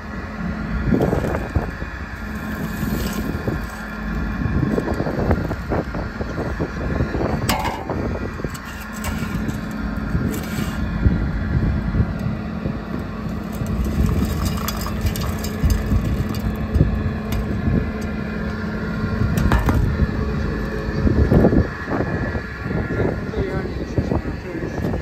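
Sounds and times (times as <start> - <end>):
steady low hum: 0.0 - 25.0
wind buffeting microphone: 0.1 - 25.0.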